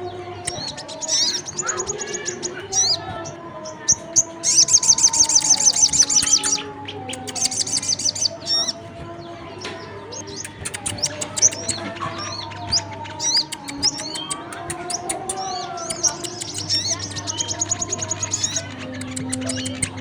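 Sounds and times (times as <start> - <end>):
sharp high bird chirps: 0.0 - 8.9, 9.6 - 20.0
bird trills: 0.0 - 20.0.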